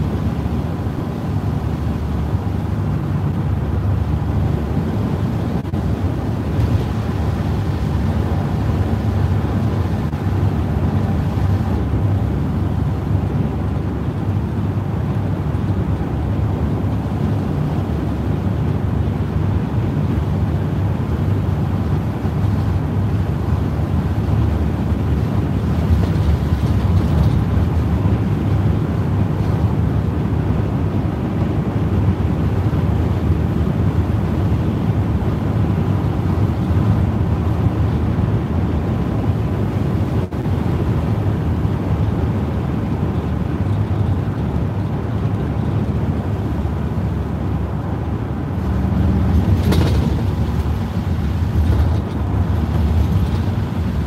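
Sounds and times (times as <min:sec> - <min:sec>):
vehicle rumble on wet road: 0:00.0 - 0:54.0.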